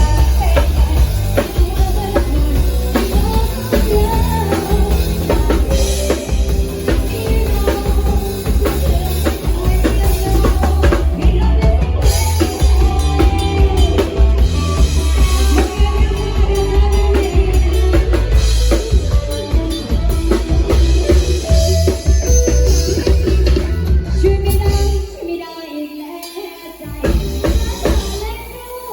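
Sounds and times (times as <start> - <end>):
band music through loudspeakers: 0.0 - 28.9.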